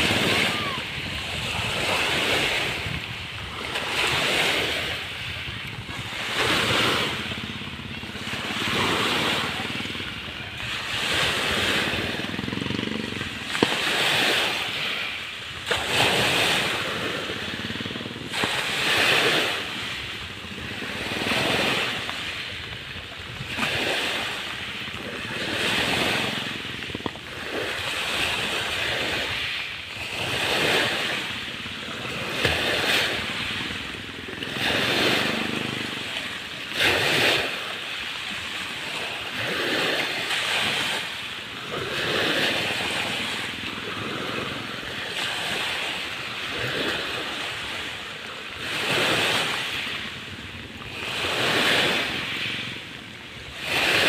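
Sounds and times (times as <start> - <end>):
lake waves washing onto shore: 0.0 - 54.0.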